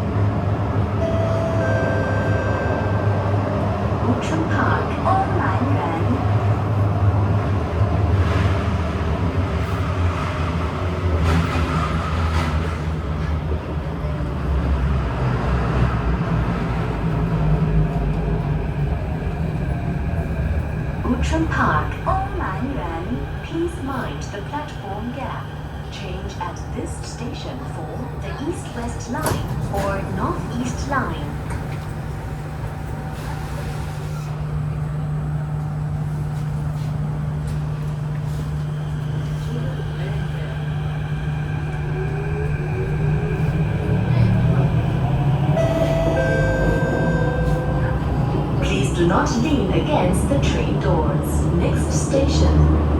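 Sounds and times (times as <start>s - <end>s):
metro car low rumble: 0.0s - 52.9s.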